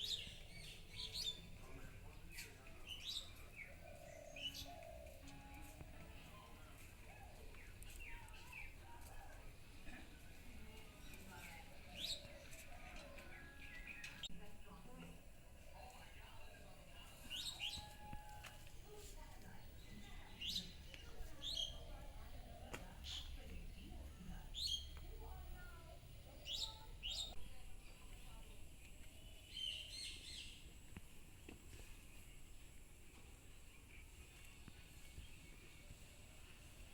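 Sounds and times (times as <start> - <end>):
birds chirping faintly: 0.0 - 36.9.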